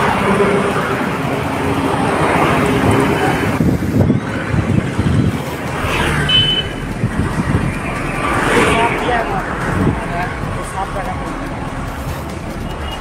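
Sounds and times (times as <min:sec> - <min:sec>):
wind rushing over microphone: 0:00.0 - 0:12.7
road noise: 0:00.0 - 0:13.0
vehicle running: 0:00.0 - 0:13.0.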